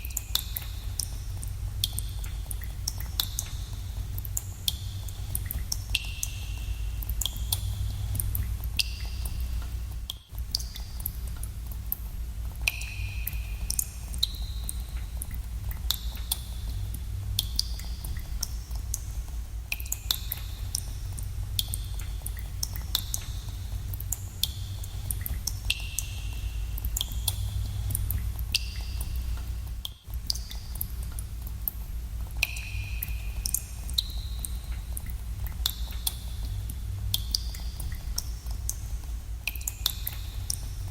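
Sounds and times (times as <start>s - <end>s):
steady low rumble: 0.0s - 40.9s
water drops plinking in cave pool: 0.0s - 40.9s.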